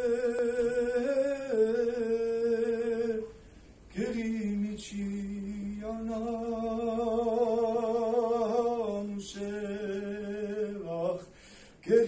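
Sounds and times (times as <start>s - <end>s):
man singing unaccompanied: 0.0s - 12.0s.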